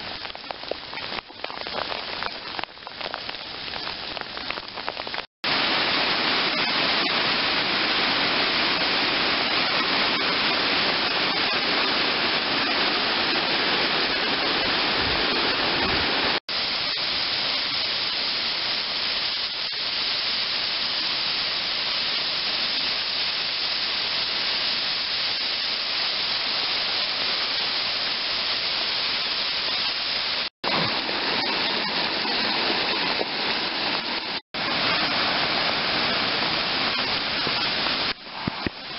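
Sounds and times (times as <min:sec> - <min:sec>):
waterfall and stream rushing: 0:00.0 - 0:38.9.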